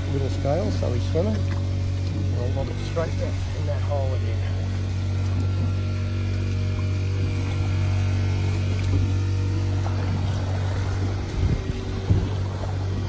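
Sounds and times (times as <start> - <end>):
boat motor idling: 0.0 - 13.0.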